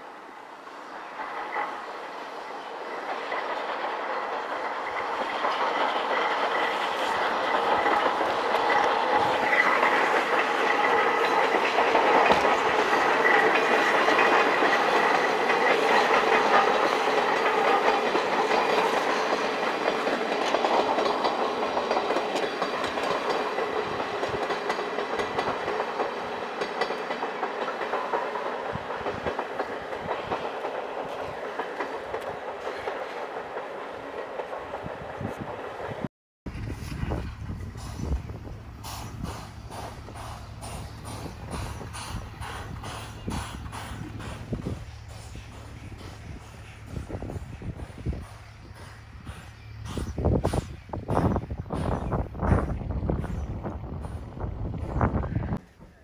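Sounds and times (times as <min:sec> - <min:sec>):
steam train passing: 0:00.0 - 0:56.0.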